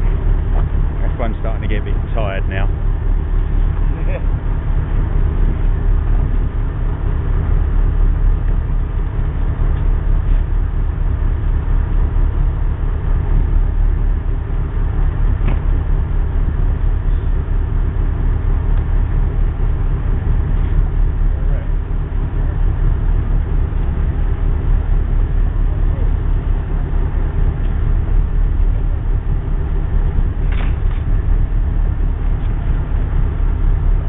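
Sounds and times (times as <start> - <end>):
boat engine idling: 0.0 - 34.0.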